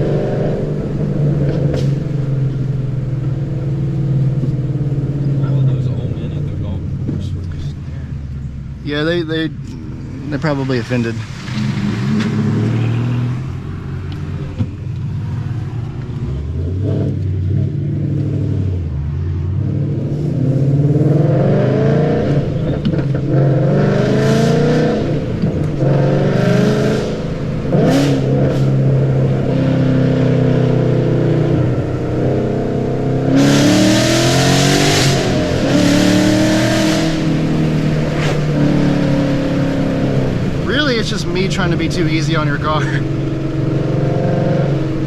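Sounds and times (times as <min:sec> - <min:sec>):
car engine accelerating: 0:00.0 - 0:45.0.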